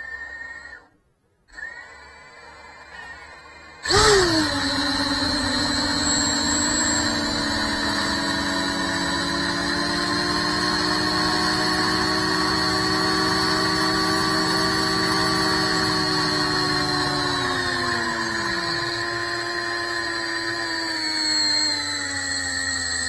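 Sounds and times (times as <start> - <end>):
drone motors whining: 1.6 - 23.0.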